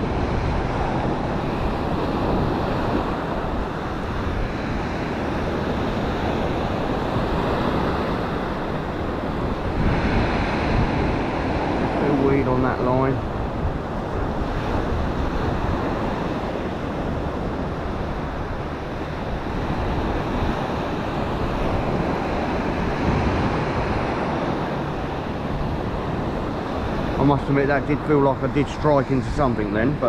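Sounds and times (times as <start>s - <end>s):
surf breaking on beach: 0.0s - 30.0s
wind rumbling on microphone: 0.0s - 30.0s.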